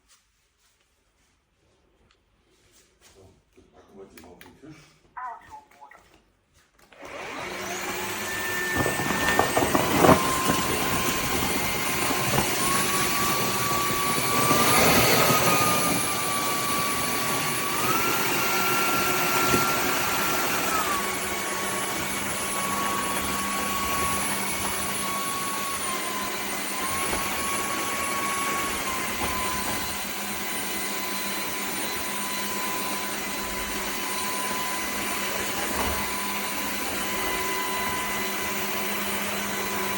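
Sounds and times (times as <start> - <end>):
floor vacuum running: 6.8 - 39.9.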